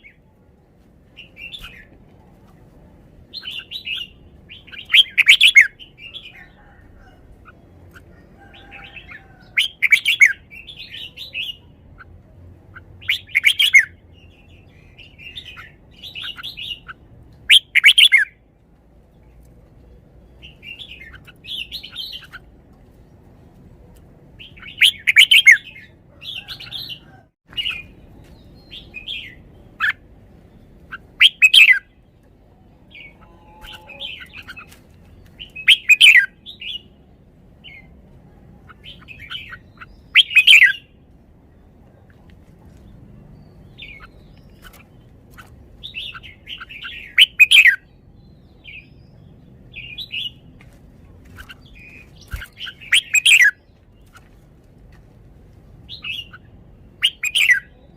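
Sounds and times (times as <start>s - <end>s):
bird singing warbled phrases: 1.2s - 1.9s, 3.2s - 18.5s, 20.1s - 22.5s, 24.4s - 50.5s, 51.2s - 54.6s, 55.8s - 57.9s.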